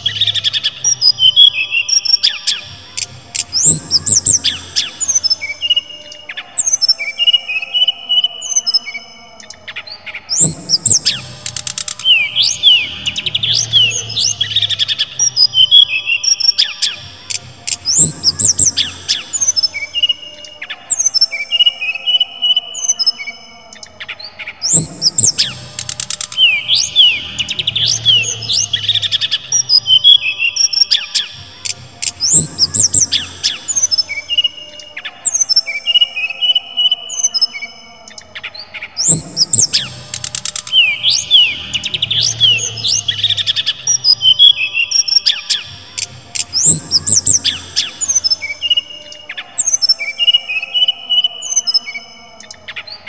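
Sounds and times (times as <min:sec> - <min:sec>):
bird singing whistles and trills: 0:00.0 - 0:53.0.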